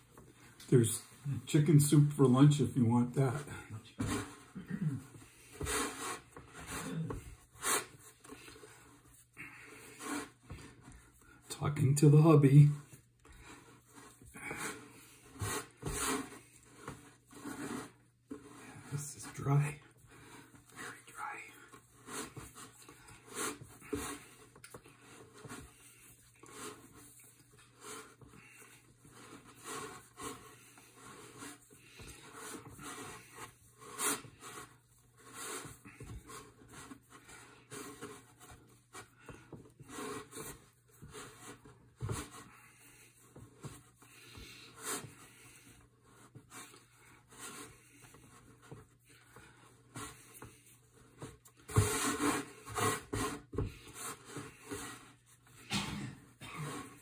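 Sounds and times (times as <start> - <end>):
dough kneaded on wooden board: 0.0 - 57.0.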